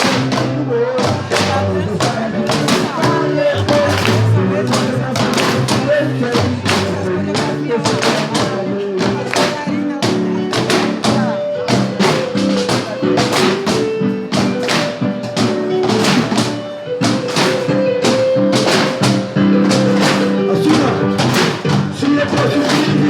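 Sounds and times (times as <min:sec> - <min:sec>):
percussion on cans: 0:00.0 - 0:23.0
pitched melody line: 0:00.0 - 0:23.0.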